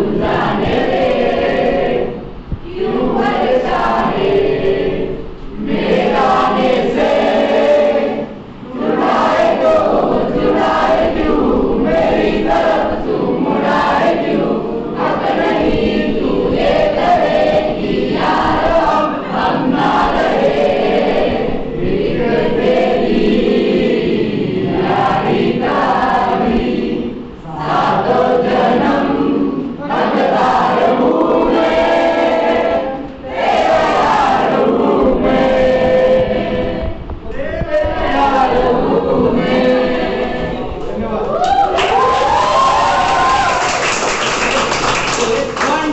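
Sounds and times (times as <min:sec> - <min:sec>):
group singing in chorus: 0:00.0 - 0:41.2.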